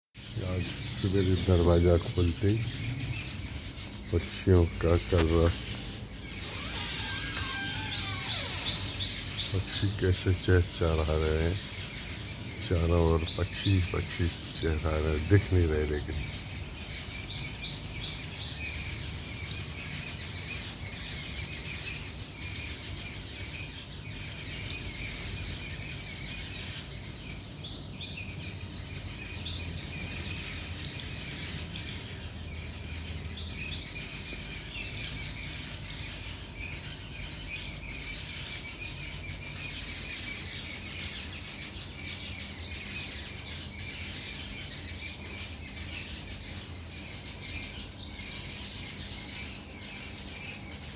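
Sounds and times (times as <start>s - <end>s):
birds chirping and calling: 0.2s - 50.9s.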